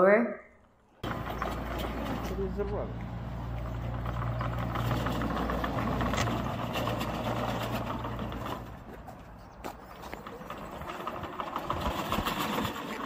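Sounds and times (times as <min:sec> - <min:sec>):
lawn mower engine chattering: 0:01.0 - 0:13.0.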